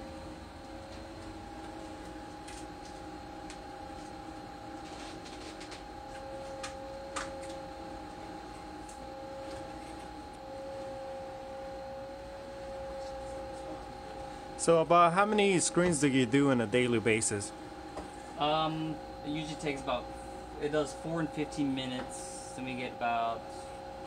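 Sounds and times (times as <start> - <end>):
press machine two-tone hum: 0.0 - 24.0.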